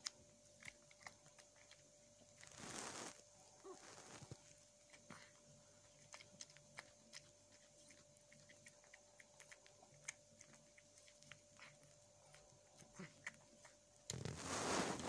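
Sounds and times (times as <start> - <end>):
cat crunching dry food: 0.0 - 15.0
faint steady hum: 0.0 - 15.0.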